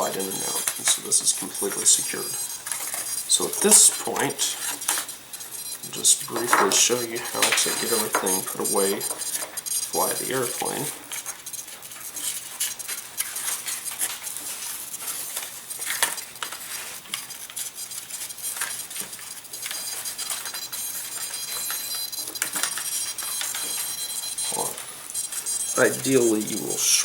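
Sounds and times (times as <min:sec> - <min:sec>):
small parts clicking and tapping: 0:00.0 - 0:27.0.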